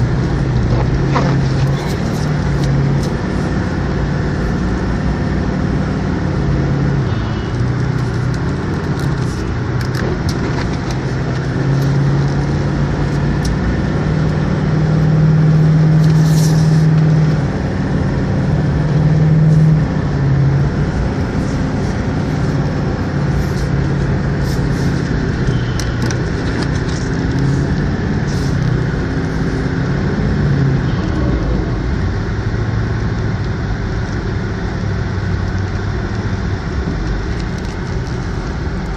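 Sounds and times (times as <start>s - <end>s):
tyres driving through snow: 0.0s - 6.6s, 7.2s - 38.9s
vehicle engine: 0.0s - 38.9s.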